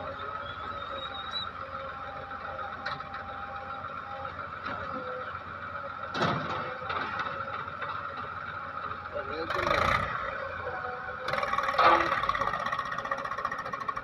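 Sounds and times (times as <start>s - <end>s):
diesel engines running: 0.0s - 14.0s.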